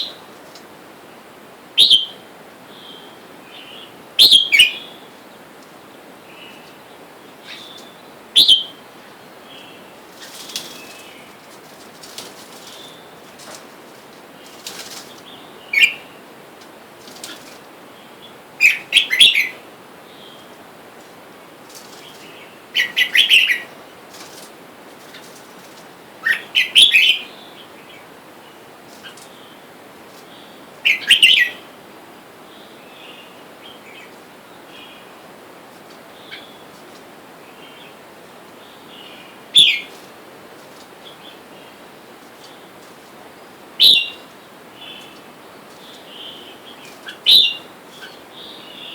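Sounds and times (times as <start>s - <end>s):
bulbuls calling: 1.8s - 20.7s, 21.4s - 31.7s, 32.5s - 48.9s.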